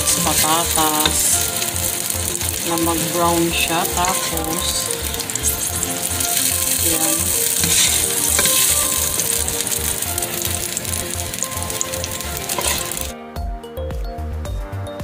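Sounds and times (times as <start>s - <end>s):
vegetables sizzling in oil: 0.0s - 13.1s
background music: 0.0s - 15.0s.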